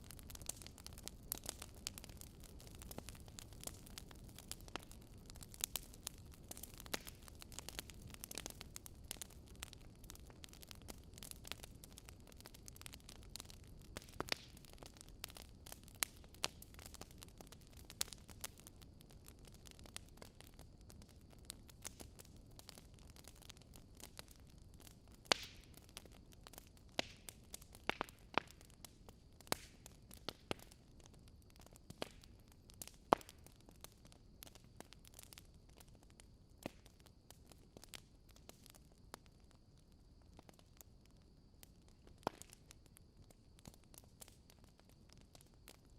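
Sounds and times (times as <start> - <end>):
fire crackling and popping: 0.0 - 45.9
soft steady hiss: 0.0 - 45.9.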